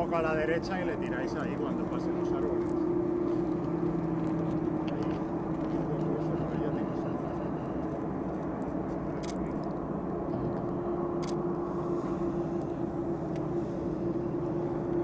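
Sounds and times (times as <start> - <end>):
distant jet engines humming: 0.0 - 15.0.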